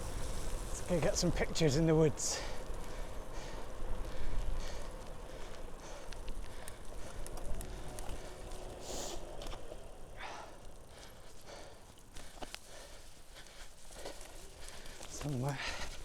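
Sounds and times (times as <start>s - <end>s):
bicycle clicks and rattles: 0.0s - 16.0s
bicycle tyre and wind rush: 0.0s - 16.0s.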